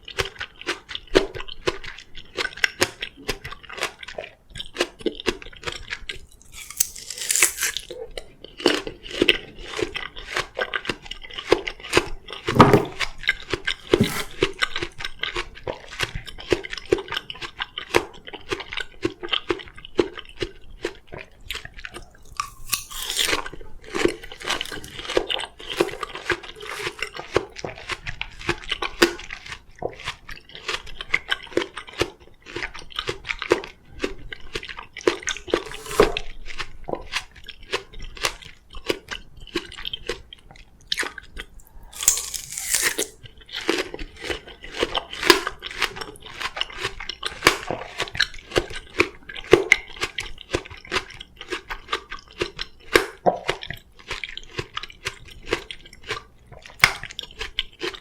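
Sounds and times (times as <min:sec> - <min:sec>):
crunching and chewing melon: 0:00.0 - 0:58.0.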